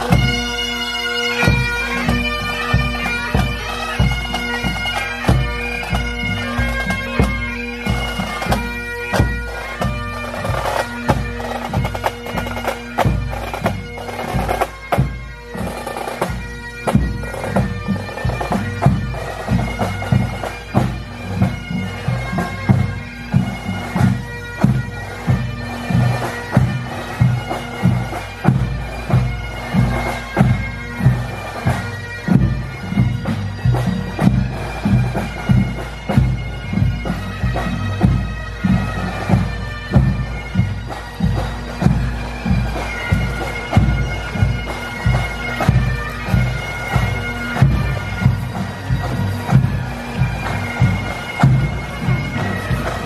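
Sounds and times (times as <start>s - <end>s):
drum beats: 0.0s - 0.5s, 1.4s - 53.0s
bagpipes playing a march: 0.0s - 53.0s.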